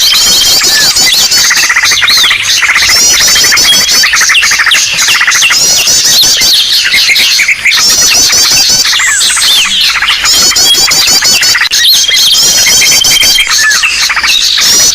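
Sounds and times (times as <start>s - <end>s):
bird whistles: 0.0s - 14.9s
flock of birds chirping and trilling: 0.0s - 14.9s.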